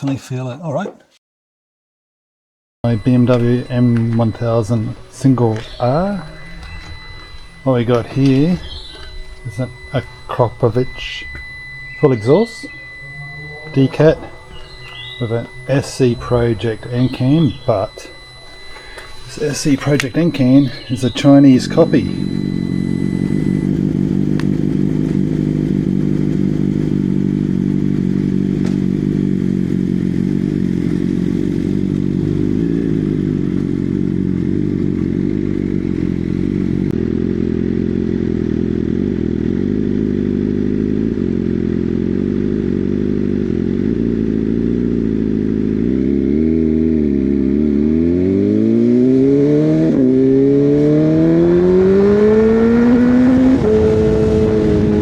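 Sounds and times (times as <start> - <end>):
gear change: 2.8 - 55.0
motorcycle engine accelerating: 2.8 - 55.0.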